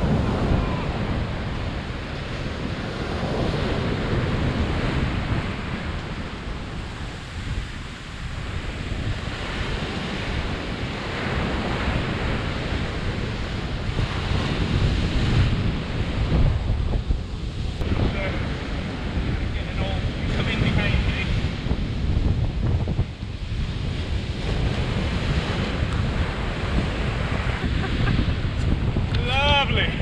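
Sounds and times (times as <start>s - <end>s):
surf breaking on a sandy beach: 0.0s - 30.0s
wind buffeting the microphone: 0.0s - 30.0s.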